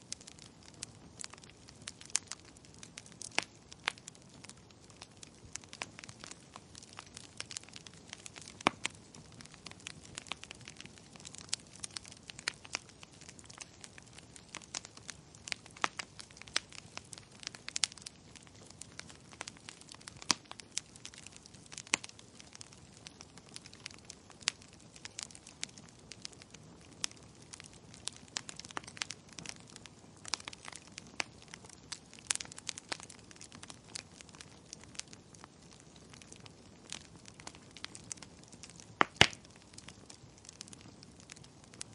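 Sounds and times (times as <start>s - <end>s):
faint steady hiss: 0.0s - 41.9s
wood fire crackling: 0.0s - 41.9s.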